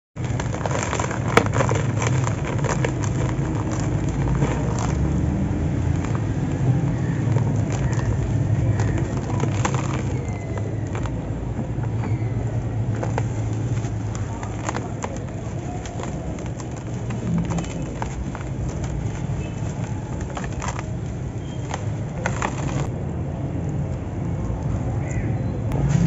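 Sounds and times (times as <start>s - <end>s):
grit pattering into a plastic basin: 0.2s - 22.9s.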